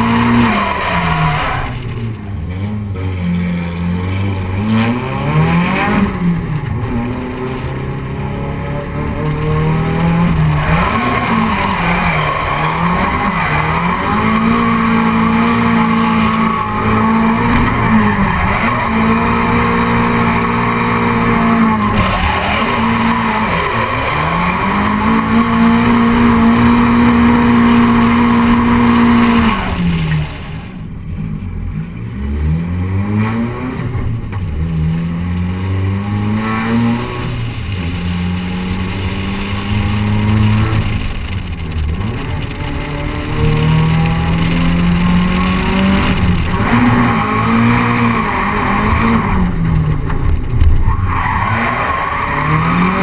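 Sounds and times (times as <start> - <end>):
car engine revving hard: 0.0 - 30.6, 31.8 - 53.0.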